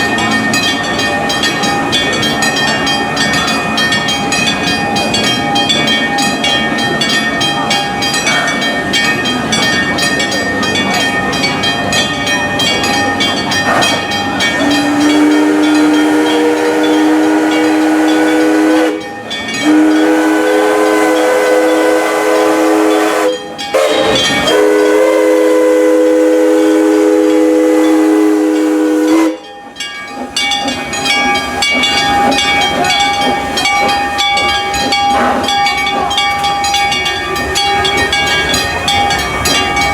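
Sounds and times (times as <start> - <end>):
steam locomotive chime whistle: 0.0 - 39.9
train clatter: 0.0 - 39.9.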